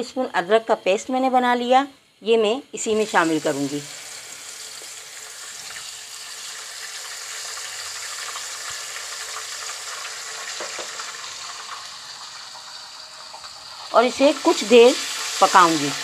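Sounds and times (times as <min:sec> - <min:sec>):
paste sizzling in hot oil: 0:02.8 - 0:16.0.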